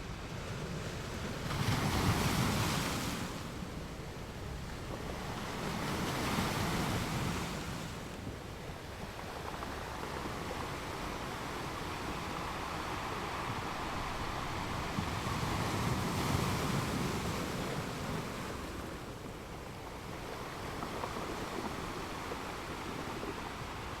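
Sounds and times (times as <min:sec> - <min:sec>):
ocean waves on beach: 0:00.0 - 0:24.0.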